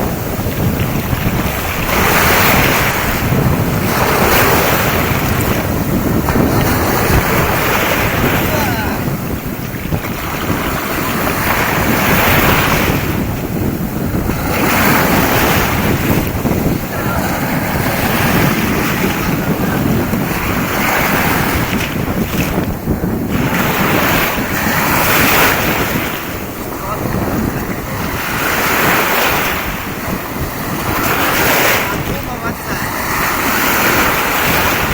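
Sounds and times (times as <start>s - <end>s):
sea waves washing: 0.0s - 34.9s
wind buffeting microphone: 0.0s - 34.9s.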